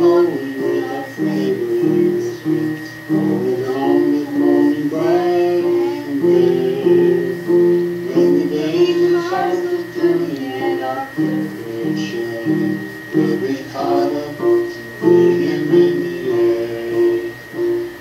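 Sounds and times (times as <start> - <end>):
woman singing gospel: 0.0 - 17.8
instrumental accompaniment: 0.0 - 18.0.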